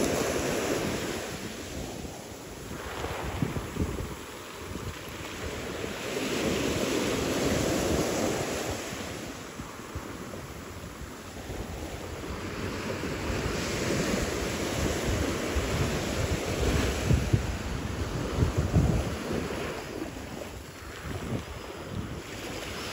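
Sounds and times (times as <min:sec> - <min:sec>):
ocean surf washing in: 0:00.0 - 0:22.9
wind rumbling on microphone: 0:00.0 - 0:22.9.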